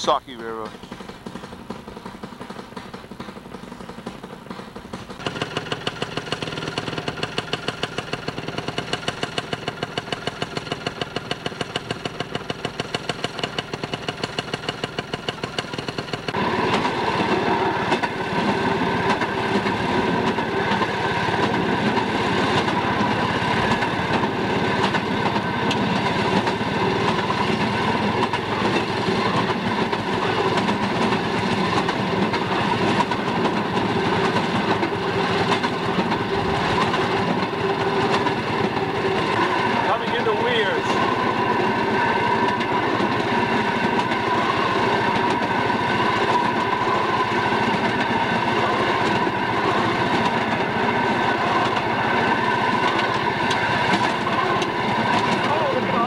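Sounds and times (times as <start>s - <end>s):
rail track noise: 0.0s - 56.0s
small engine running: 0.4s - 56.0s.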